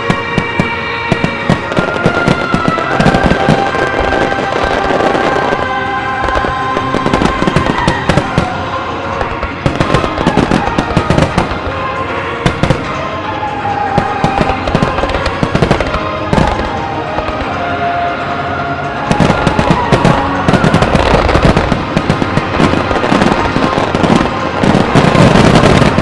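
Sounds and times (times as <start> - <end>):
firework crackling: 0.0 - 26.0
fireworks bursting: 0.0 - 26.0
music: 0.0 - 26.0.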